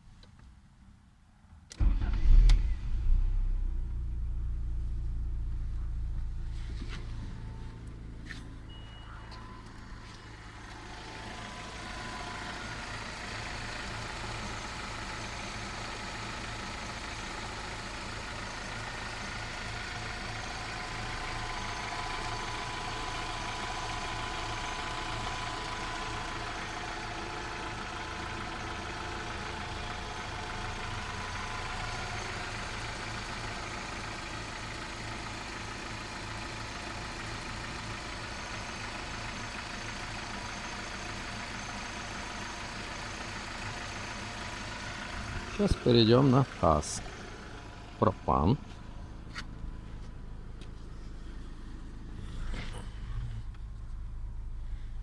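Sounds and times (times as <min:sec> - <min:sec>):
car engine idling: 0:01.7 - 0:55.0.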